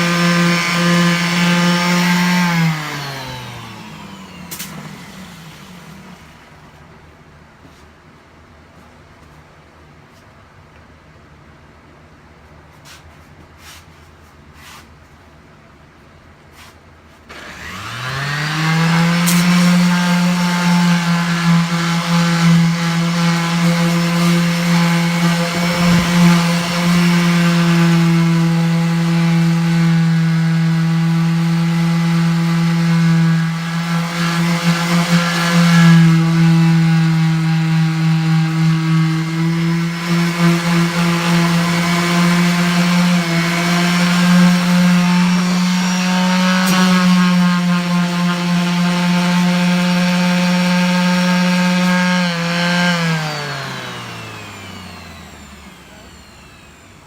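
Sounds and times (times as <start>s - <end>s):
electric power tool motor: 0.0s - 6.8s, 17.3s - 57.0s.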